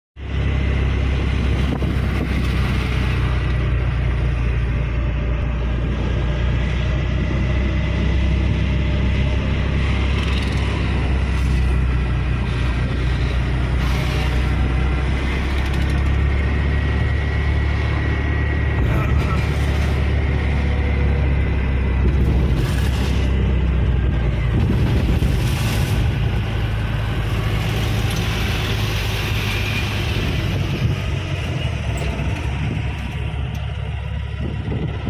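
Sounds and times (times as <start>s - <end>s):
diesel engine rumble: 0.2s - 35.0s
road noise: 0.2s - 35.0s.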